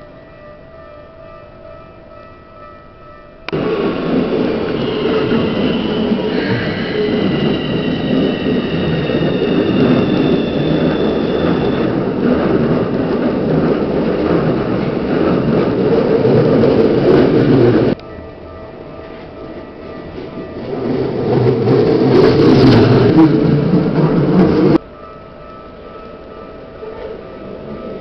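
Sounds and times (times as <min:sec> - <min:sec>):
train wheels rumbling: 0:01.9 - 0:28.0
high multi-tone whine: 0:03.4 - 0:28.0.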